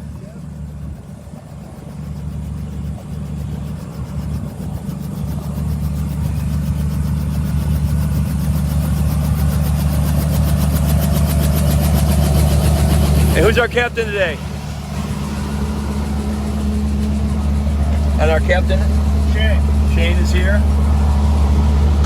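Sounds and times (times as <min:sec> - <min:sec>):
helicopter engine and rotor hum: 0:00.0 - 0:22.0.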